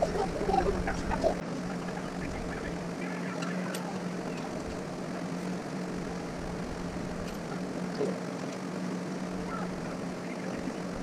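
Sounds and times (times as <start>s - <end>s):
mechanical hum with whir: 0.0s - 11.0s.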